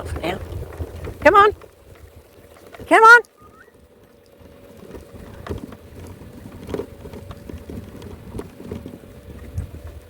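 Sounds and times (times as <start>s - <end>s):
scooter motor whine: 0.0s - 10.0s
wind on microphone: 0.0s - 10.0s.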